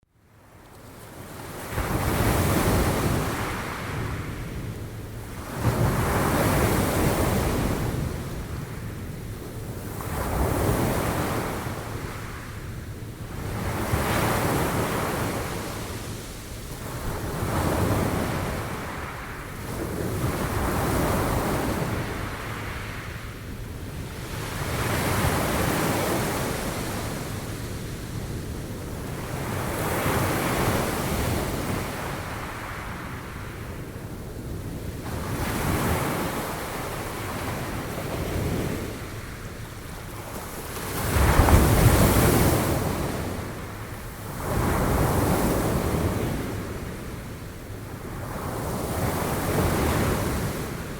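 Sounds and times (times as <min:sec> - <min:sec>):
sea waves breaking on shore: 0:09.6 - 0:50.9.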